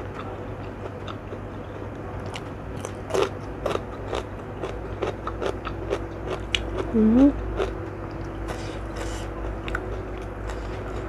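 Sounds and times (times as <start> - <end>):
crisp chewing crunches: 0.0 - 11.0.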